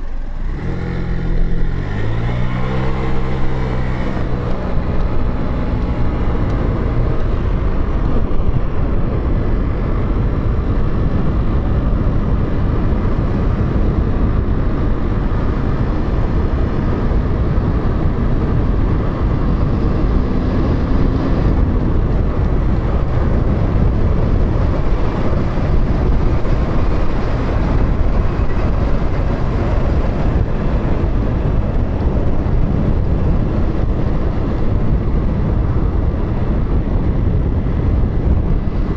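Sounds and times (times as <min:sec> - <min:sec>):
motorcycle engine and tyre noise: 0:00.0 - 0:38.9
wind rushing over microphone: 0:00.0 - 0:38.9.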